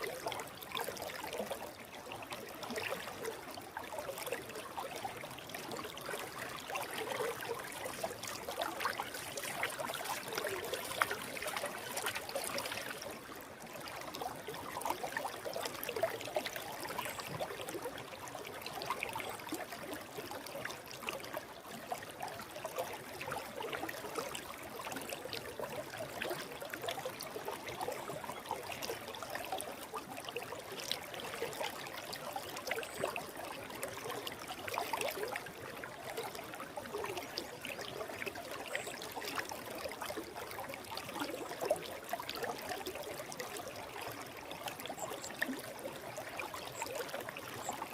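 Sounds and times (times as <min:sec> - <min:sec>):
stream flowing: 0:00.0 - 0:47.9.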